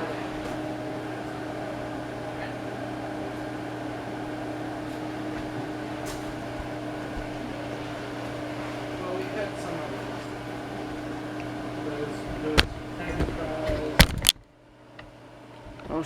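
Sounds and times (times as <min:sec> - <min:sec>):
ceiling fan motor hum: 0:00.0 - 0:16.0
fan blades rushing: 0:00.0 - 0:16.0.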